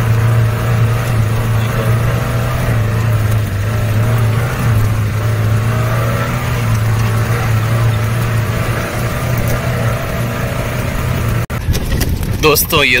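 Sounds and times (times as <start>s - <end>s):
jeep engine running under load: 0.0s - 13.0s.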